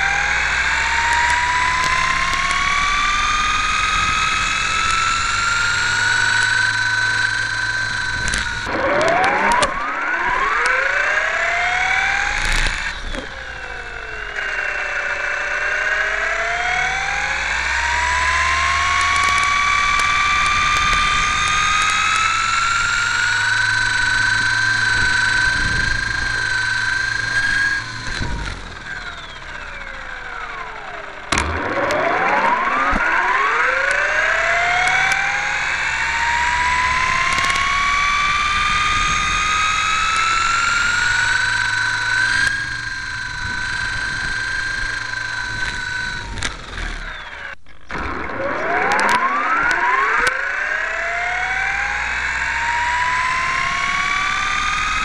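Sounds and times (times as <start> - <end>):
model plane motor whining: 0.0 - 55.0.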